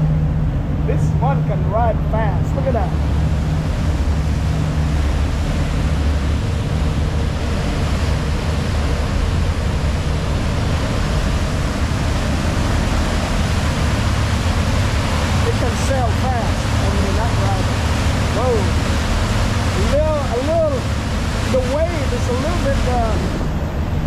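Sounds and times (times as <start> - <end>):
churning propeller wake water: 0.0 - 24.0
ferry engines droning: 0.0 - 24.0
wind: 0.0 - 24.0.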